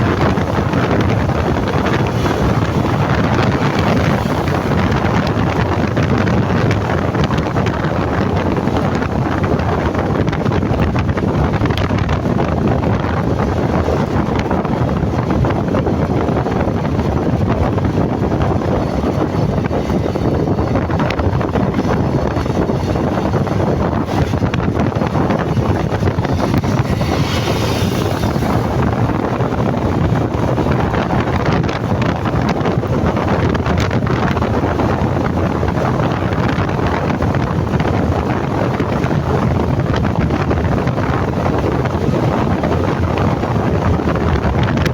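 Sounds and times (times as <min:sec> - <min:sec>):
motorcycle engine and road noise: 0:00.0 - 0:44.9
wind buffeting microphone: 0:00.0 - 0:44.9.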